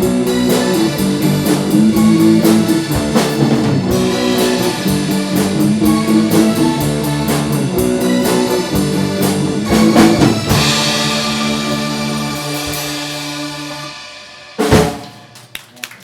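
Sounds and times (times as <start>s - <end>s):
guitar chords: 0.0s - 14.9s
live rock band playing: 0.0s - 15.7s
drum kit: 0.0s - 16.0s.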